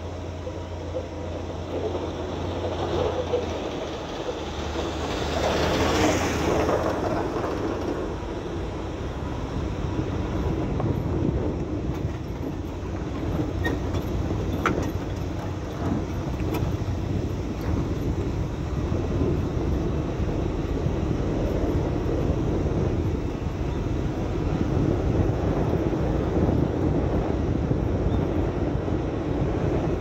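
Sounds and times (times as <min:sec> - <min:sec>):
vehicle rumbling on dirt road: 0:00.0 - 0:30.0.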